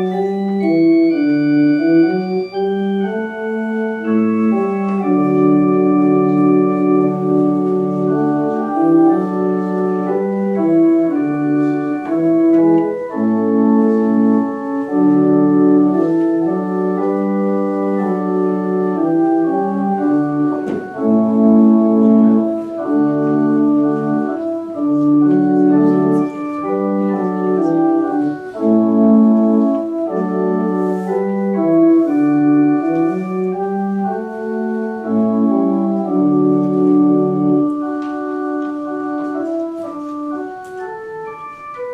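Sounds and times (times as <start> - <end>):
organ playing slow chords: 0.0 - 41.9.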